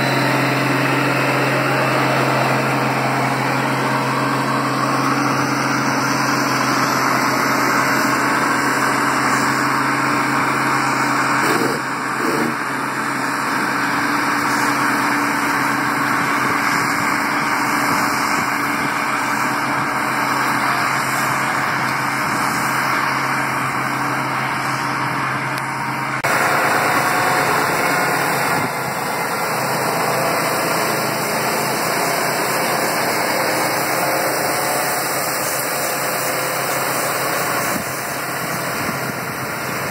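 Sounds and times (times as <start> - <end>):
heavy machinery engines running: 0.0 - 39.9.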